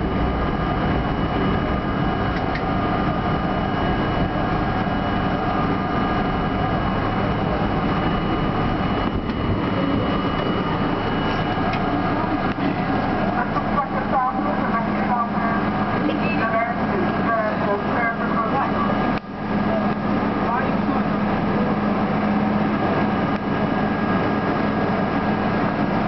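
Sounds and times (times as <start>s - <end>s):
subway train wheels rumbling on rails: 0.0s - 26.0s.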